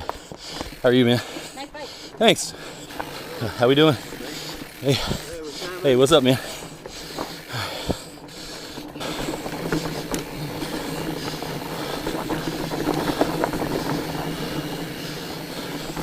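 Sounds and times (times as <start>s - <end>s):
bike rattling and clicking: 0.0s - 16.0s
bike tyres droning on rocks: 0.0s - 16.0s.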